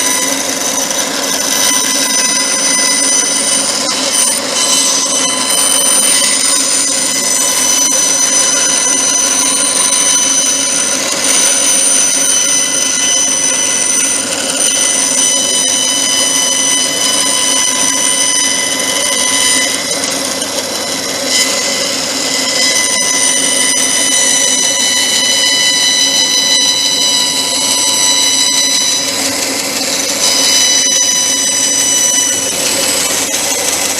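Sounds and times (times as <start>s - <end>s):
electric power tool whining: 0.0s - 33.9s.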